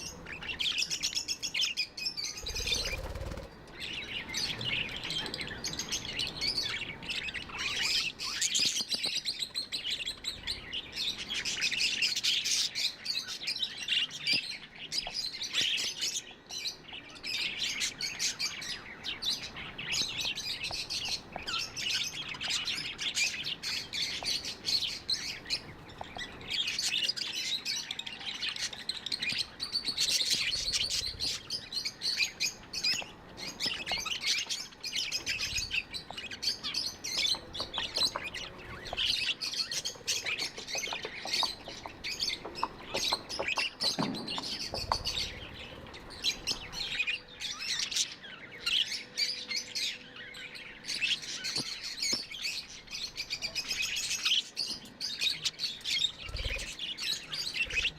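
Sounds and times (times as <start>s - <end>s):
budgerigars chirping: 0.0s - 16.3s, 16.9s - 57.9s.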